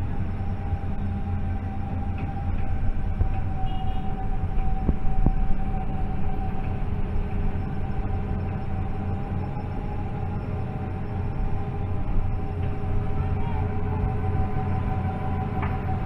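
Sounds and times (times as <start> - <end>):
heavy machinery droning: 0.0 - 16.0.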